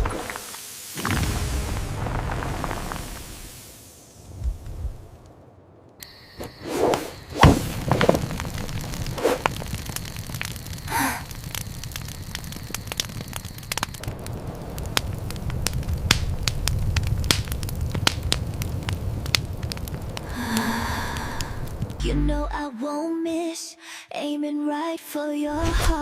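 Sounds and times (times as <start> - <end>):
fire whooshes: 0.0 - 22.0
wood fire crackling: 0.0 - 22.4.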